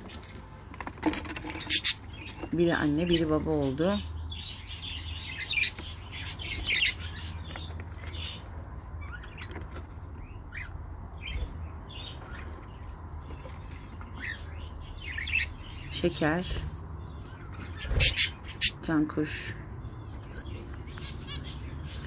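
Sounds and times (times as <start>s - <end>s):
budgerigars chirping: 1.4s - 22.0s.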